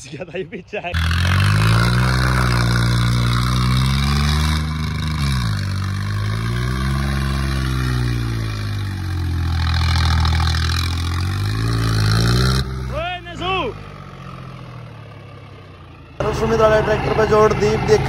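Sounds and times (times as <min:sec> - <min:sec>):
tractor diesel engine revving: 0:00.9 - 0:18.0.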